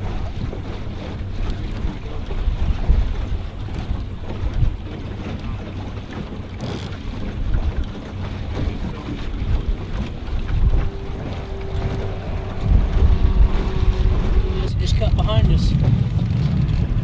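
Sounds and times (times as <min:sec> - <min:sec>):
outboard motor humming: 0:00.0 - 0:17.0
wind buffeting microphone: 0:00.0 - 0:17.0.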